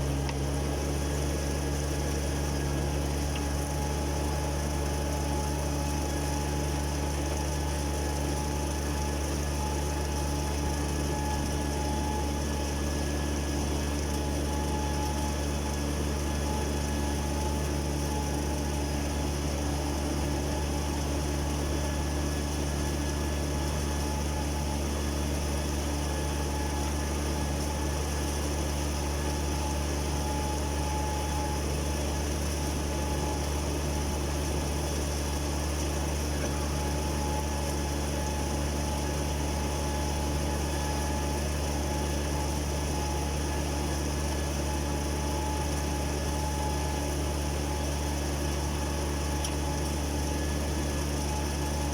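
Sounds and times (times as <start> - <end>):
engine hum: 0.0 - 51.9.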